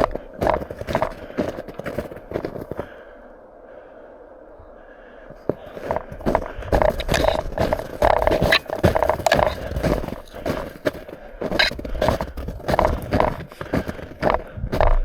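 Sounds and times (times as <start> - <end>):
footsteps crunching in snow: 0.0 - 3.0, 5.4 - 15.0.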